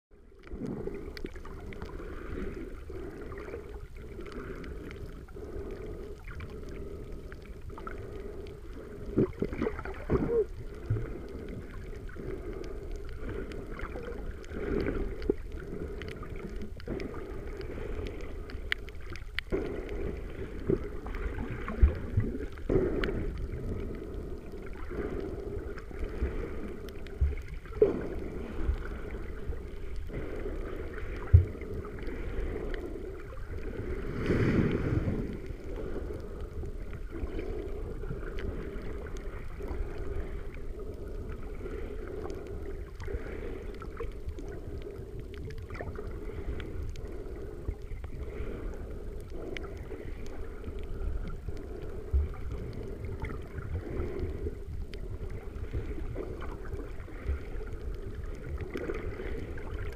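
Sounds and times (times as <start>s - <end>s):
underwater rush of water: 0.1s - 59.9s.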